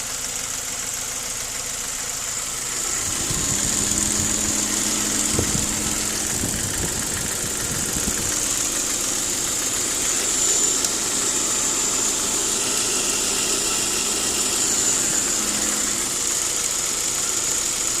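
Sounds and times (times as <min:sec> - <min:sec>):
car engine idling: 0:00.0 - 0:18.0
high-pitched whine: 0:02.6 - 0:17.9.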